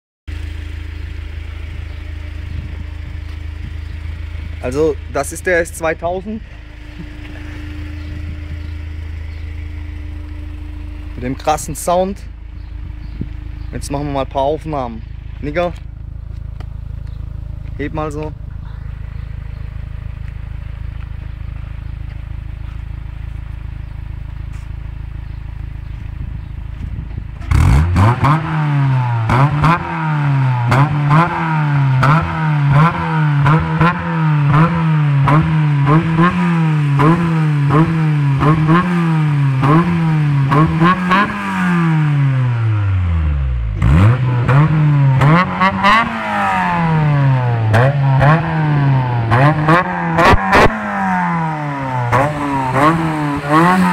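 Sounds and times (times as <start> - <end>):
engine revving in throttle blips: 0.3 - 23.4, 24.3 - 53.9
car engine idling: 0.3 - 53.9.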